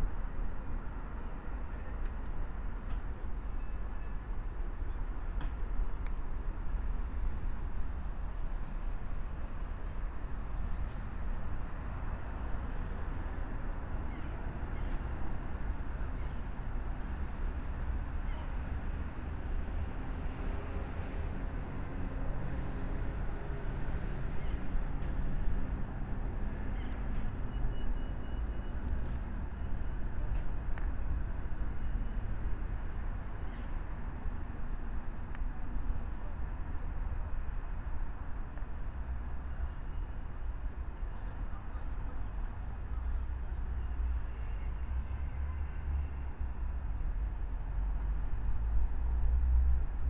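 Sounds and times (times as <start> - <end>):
low rumble of traffic: 0.0 - 50.0.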